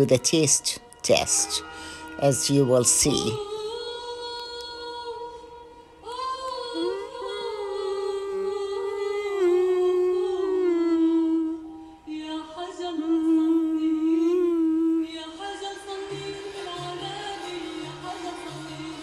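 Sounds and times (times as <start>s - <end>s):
woman singing unaccompanied: 2.2s - 19.0s.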